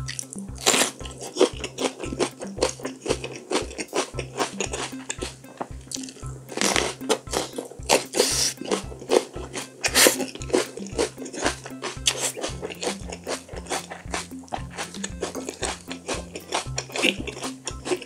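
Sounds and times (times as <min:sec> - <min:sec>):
background music with beat: 0:00.0 - 0:18.0
crunching pepper: 0:00.0 - 0:18.0.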